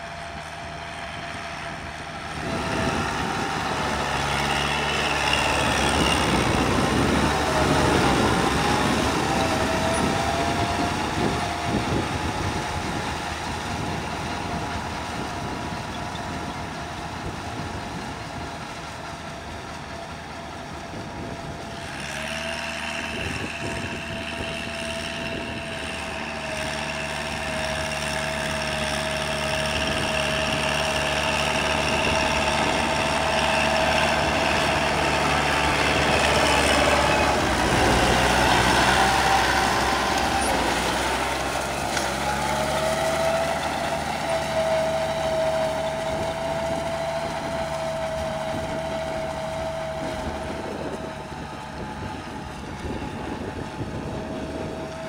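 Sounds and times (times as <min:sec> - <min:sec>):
rotary tiller churning soil: 0:00.0 - 0:55.0
tractor diesel engine under load: 0:00.0 - 0:55.0.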